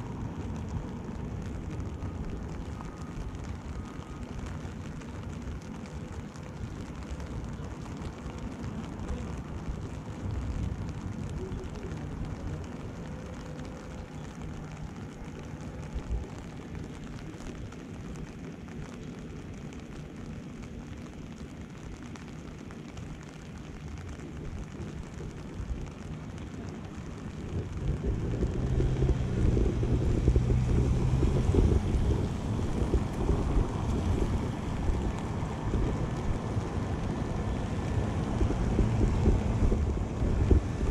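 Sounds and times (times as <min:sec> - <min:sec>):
engine hum: 0:00.0 - 0:40.9
low outdoor rumble: 0:00.0 - 0:40.9.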